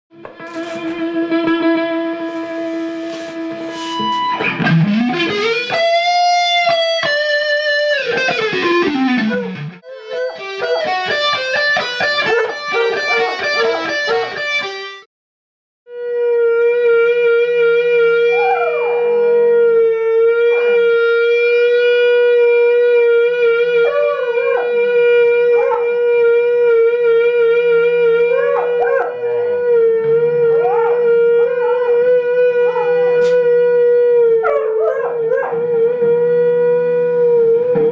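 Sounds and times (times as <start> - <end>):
electric guitar with sliding notes: 0.1 - 15.1, 15.9 - 37.9
long held guitar note: 0.2 - 15.0, 15.9 - 37.9.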